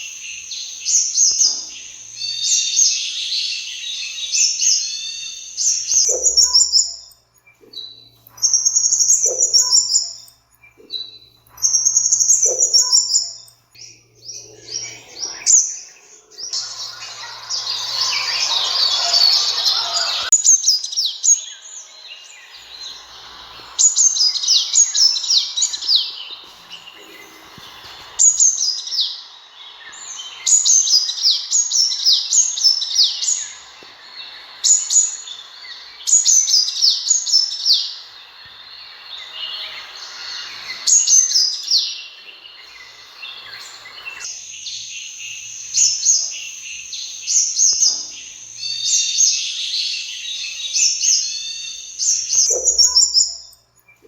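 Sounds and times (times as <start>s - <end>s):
noisy hiss: 0.0s - 54.0s
sunbird chirping: 0.0s - 54.0s.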